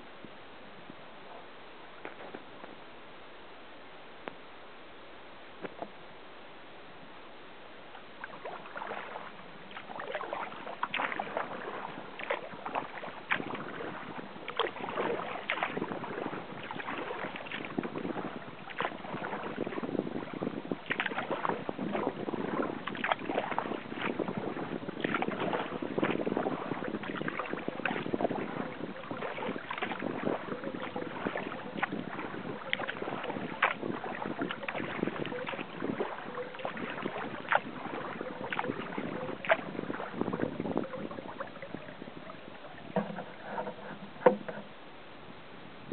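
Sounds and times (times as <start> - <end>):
water washing along hull: 7.7 - 44.9
paddle splashing in water: 7.9 - 44.8.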